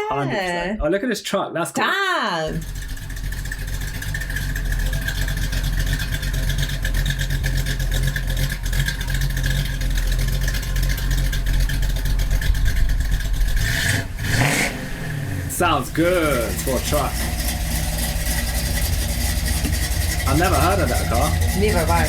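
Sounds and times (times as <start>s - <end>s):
truck engine idling: 2.5s - 22.0s.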